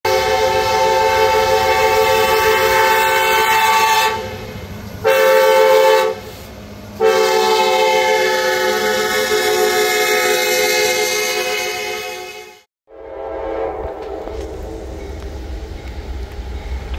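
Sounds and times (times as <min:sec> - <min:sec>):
locomotive air horn blasts: 0:00.1 - 0:15.0.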